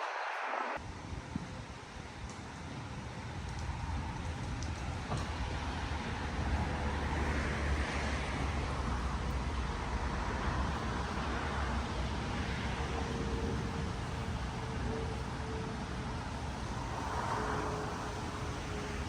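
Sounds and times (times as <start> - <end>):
vehicle and road noise: 0.0 - 19.0.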